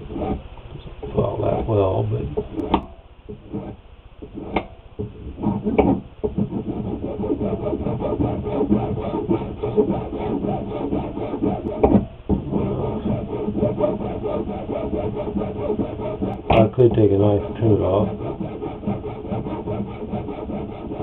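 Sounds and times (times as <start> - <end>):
hand file rasping on plastic: 0.0 - 0.4, 2.4 - 21.0.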